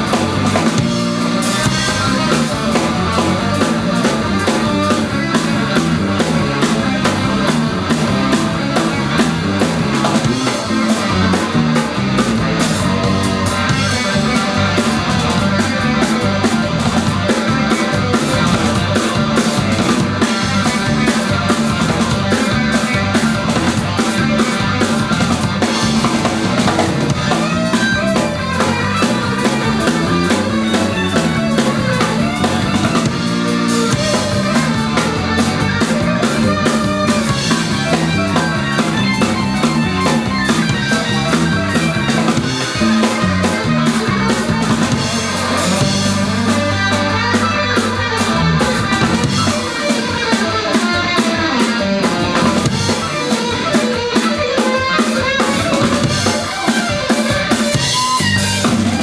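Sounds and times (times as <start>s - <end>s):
drum kit beat: 0.0s - 59.0s
guitar: 0.0s - 59.0s
live band playing: 0.0s - 59.0s.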